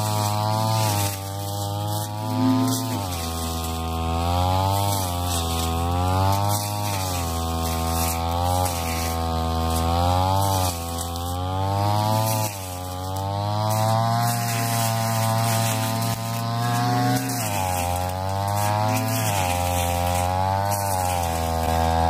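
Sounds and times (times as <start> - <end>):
brush cutter engine cutting grass: 0.0 - 22.0.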